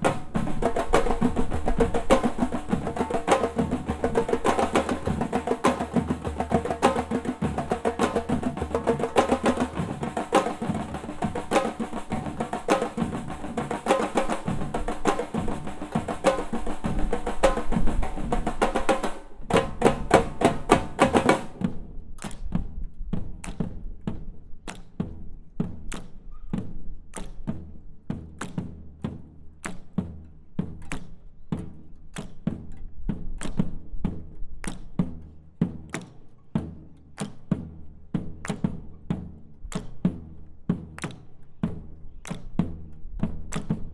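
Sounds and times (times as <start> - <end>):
drums playing a funk groove: 0.0 - 43.9.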